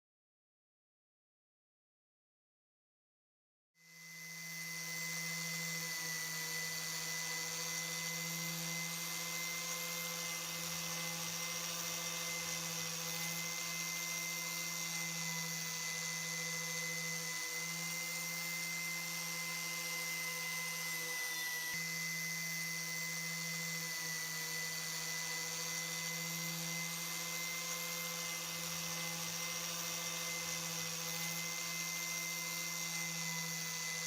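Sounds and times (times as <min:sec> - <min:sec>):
electric power tool running: 0:03.8 - 0:34.0.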